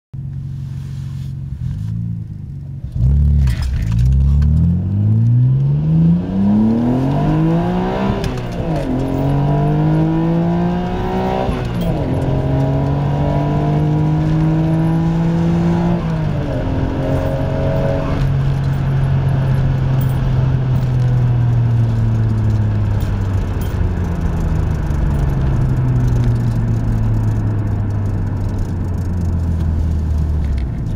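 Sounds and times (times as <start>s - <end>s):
car engine accelerating: 0.2s - 30.9s.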